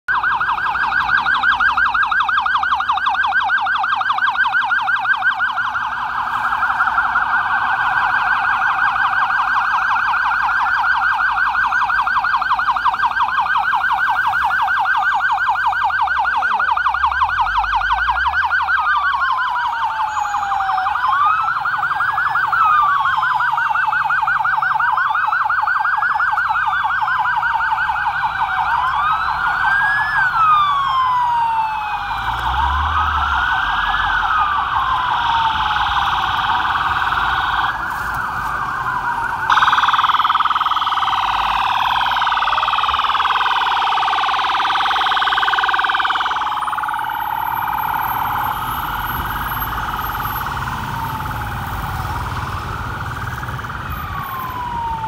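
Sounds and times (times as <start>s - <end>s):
siren wailing: 0.0s - 55.0s
siren fast yelp: 0.1s - 55.0s
vehicle engine rumble: 0.1s - 55.0s.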